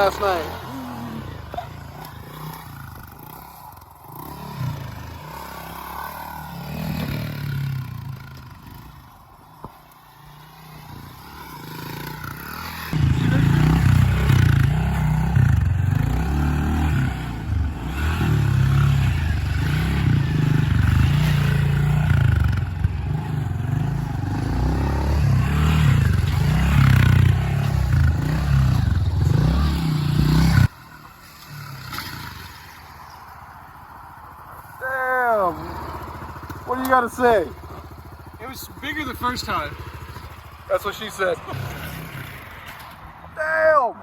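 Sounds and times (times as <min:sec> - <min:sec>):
dirt bike engine revving: 0:00.0 - 0:09.2, 0:10.0 - 0:33.1, 0:34.8 - 0:42.8.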